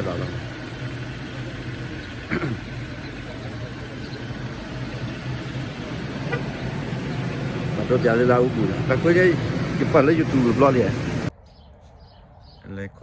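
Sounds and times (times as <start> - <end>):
engine-like idling hum: 0.0 - 11.3.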